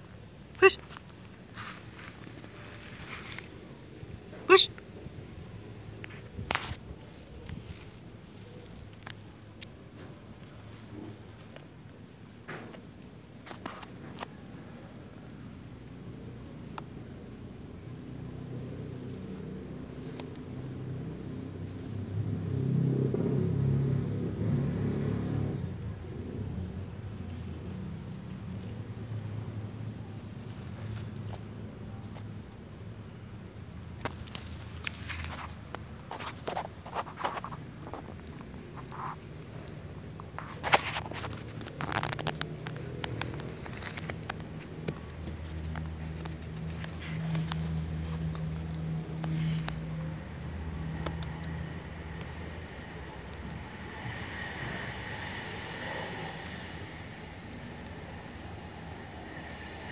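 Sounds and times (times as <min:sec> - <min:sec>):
passing vehicle engine rumble: 0:00.0 - 0:59.9
rustling in grass: 0:00.1 - 0:04.3, 0:05.1 - 0:17.2, 0:18.6 - 0:59.9.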